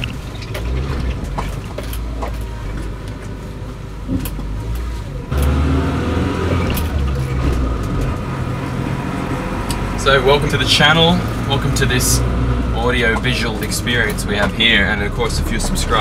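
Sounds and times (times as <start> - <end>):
car engine running: 0.0 - 16.0
road noise inside car: 0.0 - 16.0.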